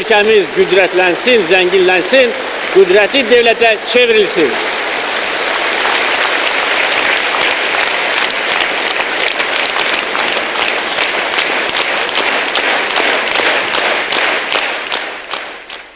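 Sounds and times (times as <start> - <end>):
crowd applauding: 0.0 - 15.9.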